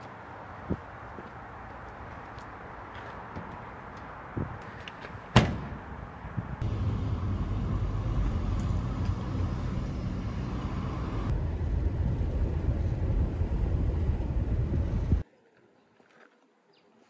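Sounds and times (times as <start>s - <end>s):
vehicle rumble: 0.0s - 15.2s.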